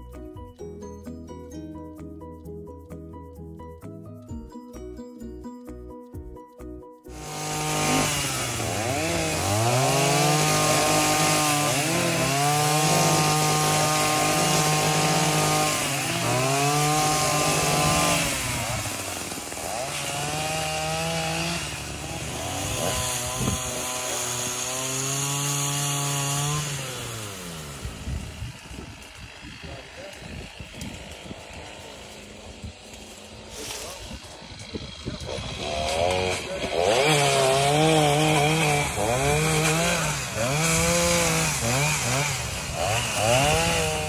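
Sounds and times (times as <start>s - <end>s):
pole saw engine revving: 7.1s - 44.0s.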